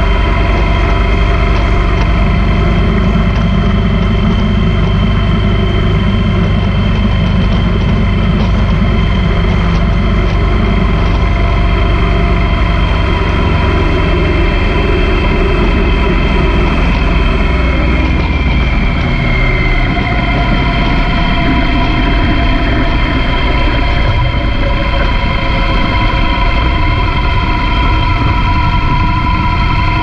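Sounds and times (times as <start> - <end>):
motorcycle engine drone: 0.0 - 30.0
wind rush on microphone: 0.0 - 30.0.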